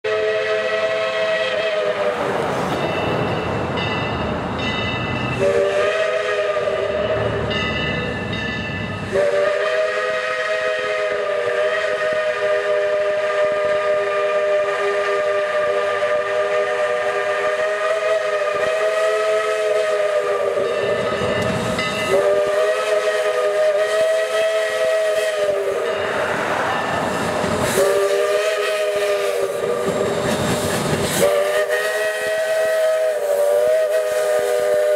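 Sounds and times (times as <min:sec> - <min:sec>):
steam whistle blasts: 0:00.0 - 0:02.3, 0:05.4 - 0:08.2, 0:09.0 - 0:26.2, 0:27.6 - 0:34.9
steam hiss: 0:00.1 - 0:34.9
locomotive running noise: 0:01.0 - 0:34.9.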